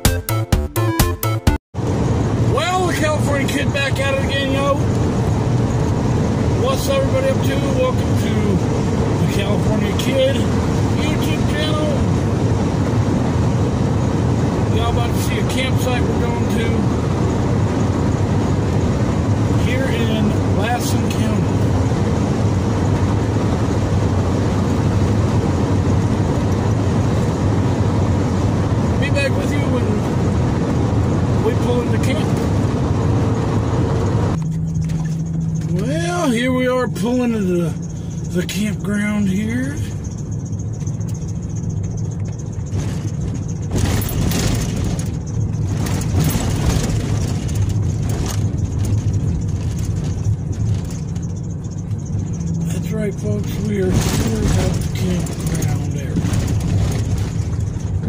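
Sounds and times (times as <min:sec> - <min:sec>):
road noise inside vehicle cabin: 0:01.8 - 0:58.0.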